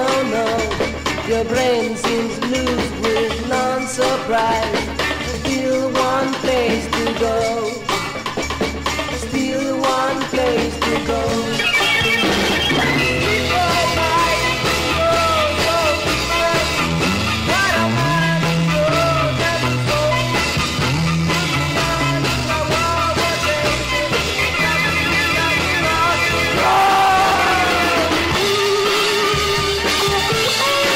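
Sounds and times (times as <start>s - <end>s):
band song playing: 0.0s - 30.9s.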